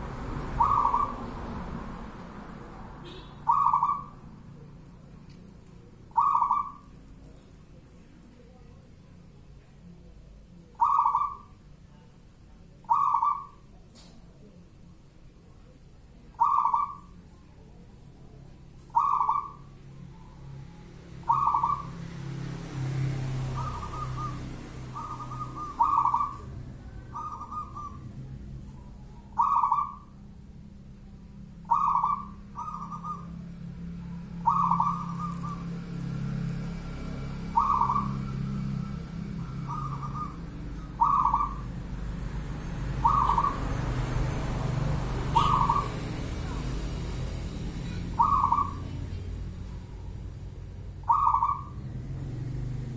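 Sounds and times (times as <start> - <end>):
dove cooing: 0.0 - 2.0, 3.0 - 4.8, 5.8 - 7.4, 10.5 - 12.0, 12.7 - 14.6, 15.6 - 30.5, 31.5 - 52.9.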